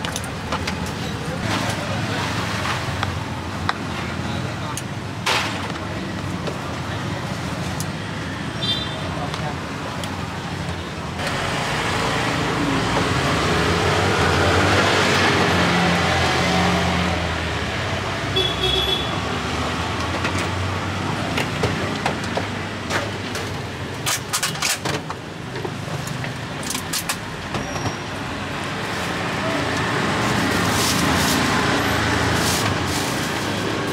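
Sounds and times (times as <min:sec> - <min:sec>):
street traffic: 0:00.0 - 0:33.9.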